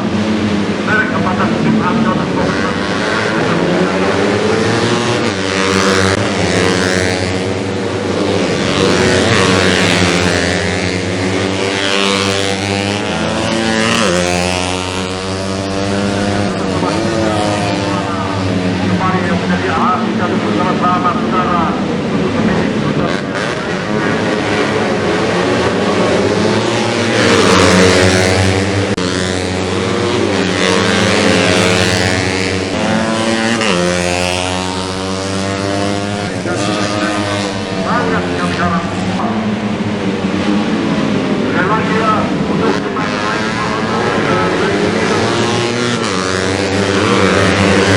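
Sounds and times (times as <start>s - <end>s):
motorcycle sweeping past: 0.0s - 47.9s
racing motorcycles at high revs: 0.0s - 47.9s.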